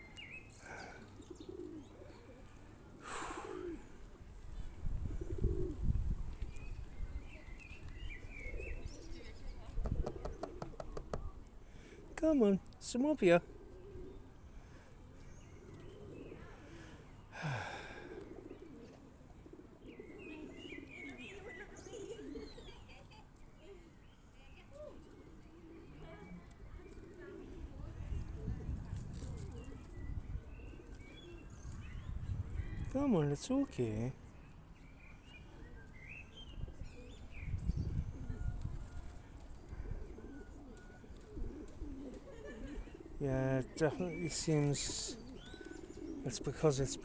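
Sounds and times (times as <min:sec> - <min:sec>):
pigeons cooing: 0:00.0 - 0:47.0
small birds chirping: 0:00.0 - 0:47.0.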